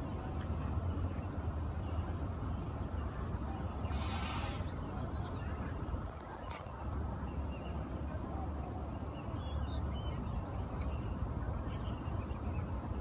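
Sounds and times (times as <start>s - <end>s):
low uneven rumble: 0.0s - 13.0s.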